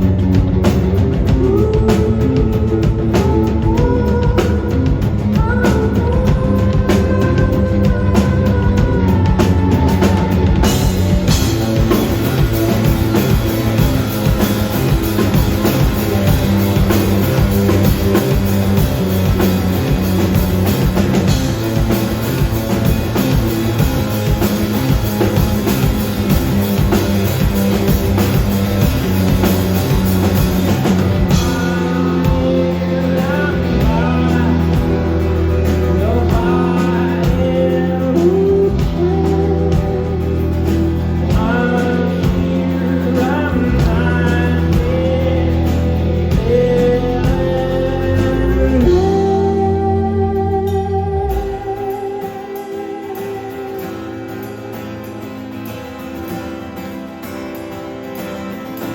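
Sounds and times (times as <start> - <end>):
person singing: 0.0 - 55.8
bass guitar: 0.0 - 58.9
drum kit: 0.0 - 58.9
electric guitar: 0.0 - 58.9.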